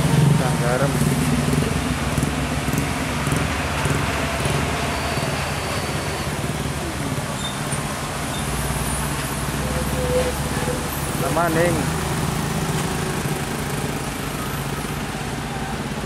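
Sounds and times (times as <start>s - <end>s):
truck and motorcycle engines droning: 0.0s - 16.0s
tyres hissing on wet road: 0.0s - 16.0s.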